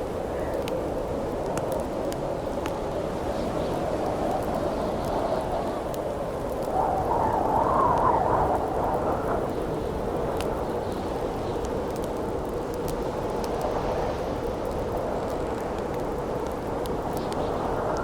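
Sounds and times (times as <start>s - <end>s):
campfire crackling: 0.0s - 18.0s
howling wind: 0.0s - 18.0s.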